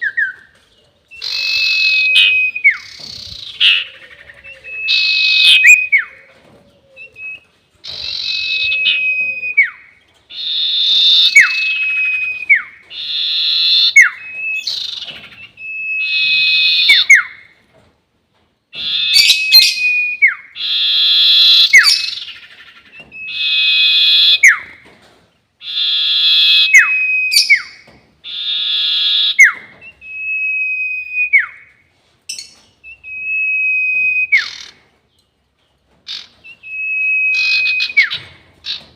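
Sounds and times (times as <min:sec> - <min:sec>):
bird singing whistling song: 0:01.1 - 0:06.3, 0:06.9 - 0:17.5, 0:18.8 - 0:24.8, 0:25.6 - 0:31.7, 0:32.3 - 0:34.7, 0:36.4 - 0:38.3.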